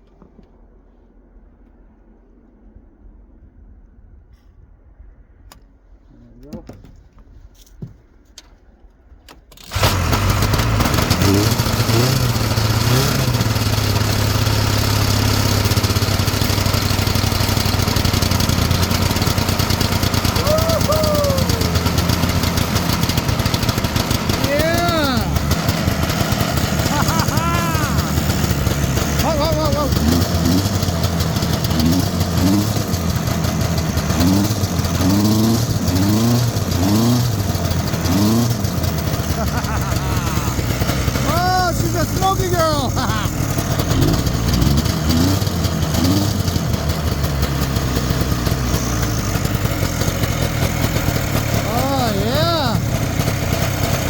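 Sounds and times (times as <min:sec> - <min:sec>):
snowmobile engine starting and running: 0:08.4 - 0:54.0.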